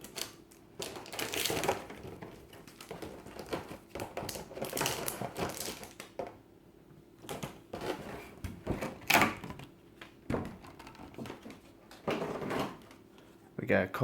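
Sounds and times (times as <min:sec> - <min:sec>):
cardboard and cards rustling: 0:00.0 - 0:06.4, 0:07.2 - 0:13.4.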